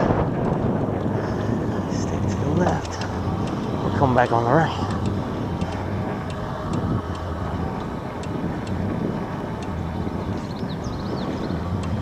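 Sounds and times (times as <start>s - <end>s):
bike tyres rumbling on trail: 0.0s - 12.0s
wind on microphone: 0.0s - 12.0s.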